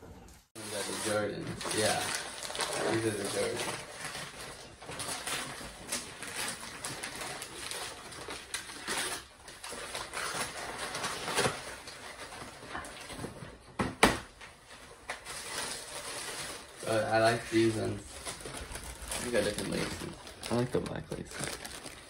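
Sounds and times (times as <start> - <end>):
wrapping paper crinkling and tearing: 0.6 - 13.4, 14.4 - 22.0.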